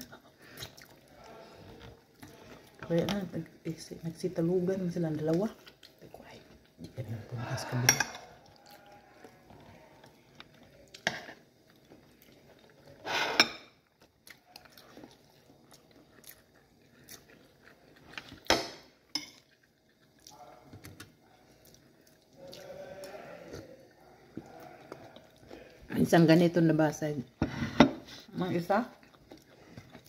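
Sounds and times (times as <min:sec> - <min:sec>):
person chewing: 0:00.0 - 0:02.9, 0:05.3 - 0:25.9, 0:28.9 - 0:30.0.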